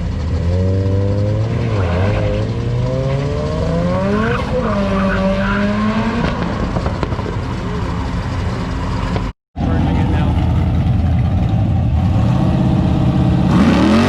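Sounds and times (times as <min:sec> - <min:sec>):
car engine revving: 0:00.0 - 0:14.0
low engine drone: 0:00.0 - 0:14.0.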